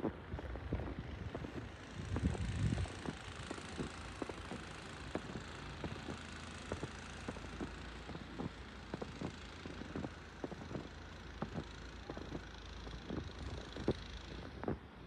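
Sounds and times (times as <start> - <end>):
footsteps crunching snow: 0.0 - 14.8.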